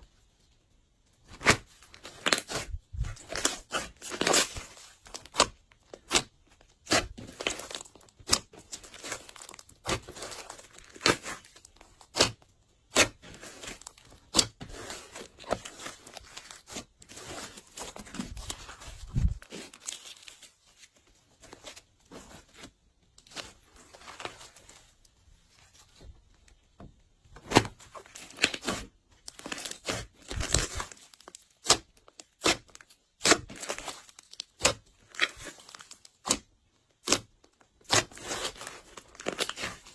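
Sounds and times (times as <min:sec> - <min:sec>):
slime being mixed: 0:01.2 - 0:25.0, 0:27.4 - 0:39.9.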